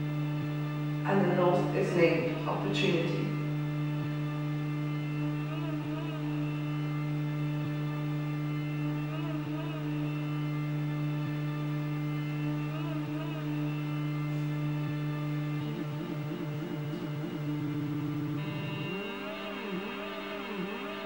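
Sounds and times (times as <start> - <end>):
faint wavering tones: 0.0 - 21.0
low electrical hum: 0.0 - 21.0.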